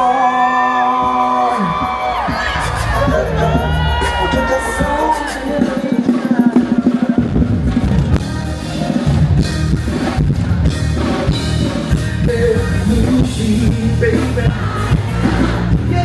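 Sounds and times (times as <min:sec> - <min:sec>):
vocalist singing: 0:00.0 - 0:10.0, 0:11.6 - 0:16.0
live band music: 0:00.0 - 0:16.0.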